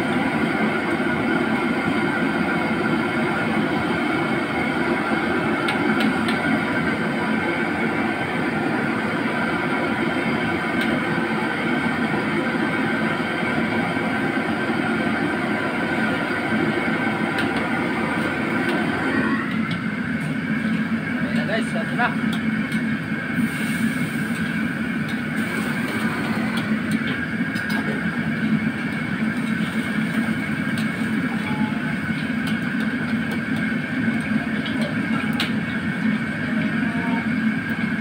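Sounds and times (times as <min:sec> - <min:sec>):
gas wok burner roaring: 0:00.0 - 0:38.0.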